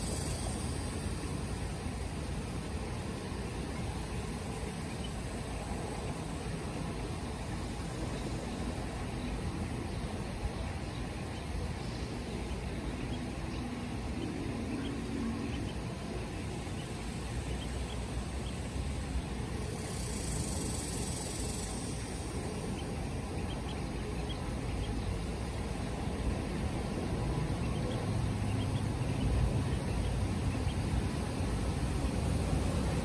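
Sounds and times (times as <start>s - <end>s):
ducklings peeping: 0.0s - 33.0s
steady low rumble: 0.0s - 33.0s.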